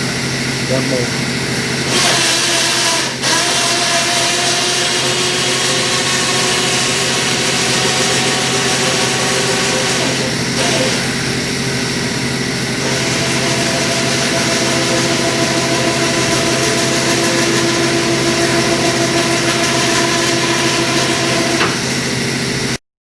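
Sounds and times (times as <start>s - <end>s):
electric winch motor whining: 1.8s - 22.5s.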